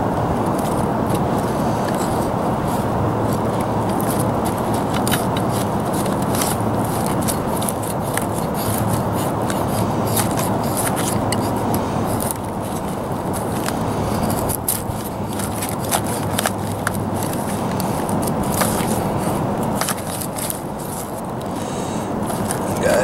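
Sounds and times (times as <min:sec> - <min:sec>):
steady rushing noise: 0:00.0 - 0:23.0
knife scraping wooden stick: 0:03.3 - 0:23.0.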